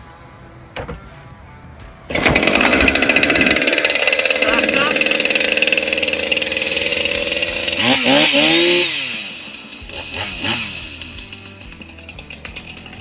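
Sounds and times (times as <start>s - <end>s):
chainsaw engine idling and revving: 2.0s - 13.0s.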